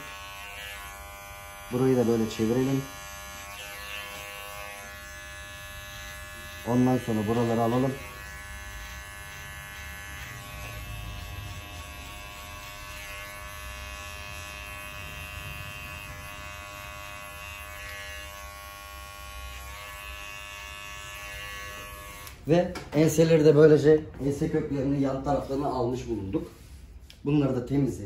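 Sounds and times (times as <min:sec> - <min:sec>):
electric hair clippers buzzing: 0:00.0 - 0:22.5.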